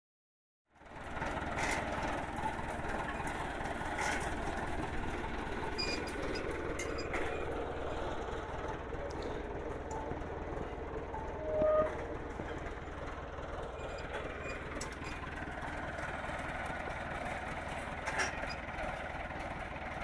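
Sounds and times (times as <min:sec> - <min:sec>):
tractor engine running: 0:00.7 - 0:20.0.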